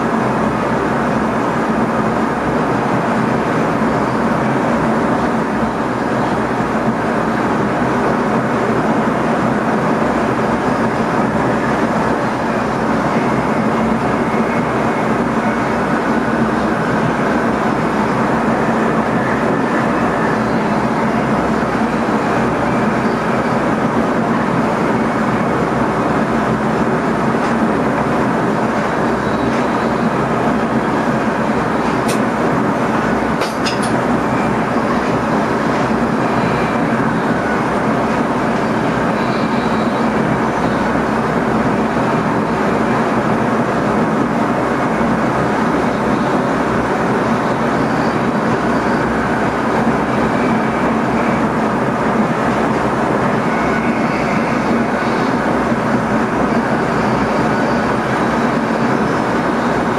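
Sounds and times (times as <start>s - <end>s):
electric train running: 0.0s - 59.9s.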